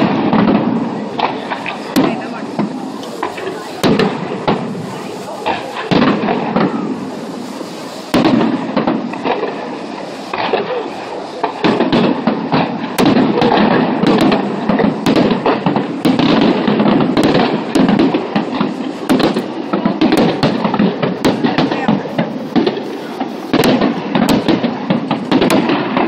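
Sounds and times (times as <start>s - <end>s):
fireworks bangs and crackles: 0.0s - 26.0s
fireworks rumble: 0.0s - 26.0s.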